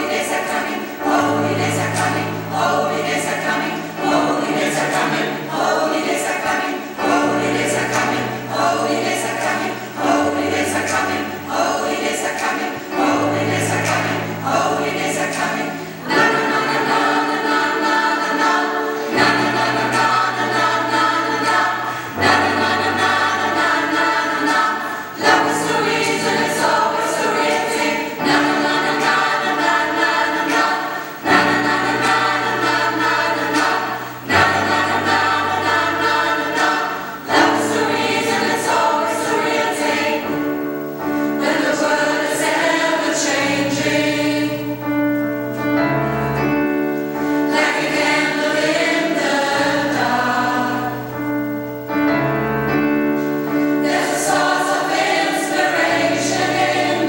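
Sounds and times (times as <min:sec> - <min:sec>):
mixed choir singing in harmony: 0:00.0 - 0:57.0.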